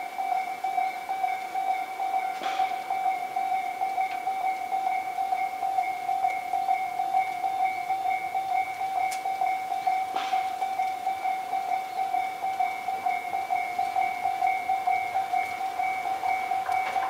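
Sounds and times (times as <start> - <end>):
level-crossing alarm dings: 0.0 - 17.0.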